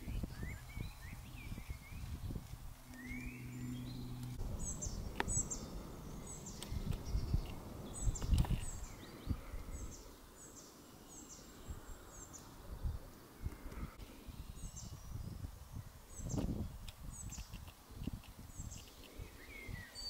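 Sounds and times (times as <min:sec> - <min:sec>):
small bird chirping: 0:00.0 - 0:12.6, 0:13.5 - 0:20.0.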